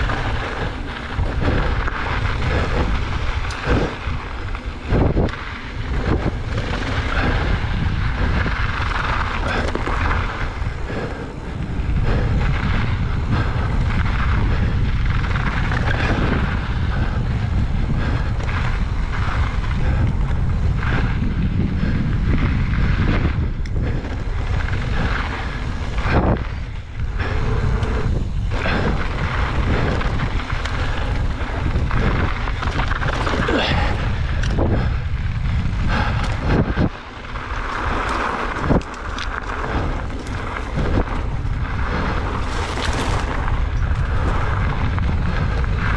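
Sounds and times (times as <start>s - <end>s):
tyres crunching on gravel: 0.0s - 45.9s
wind buffeting microphone: 0.0s - 45.9s.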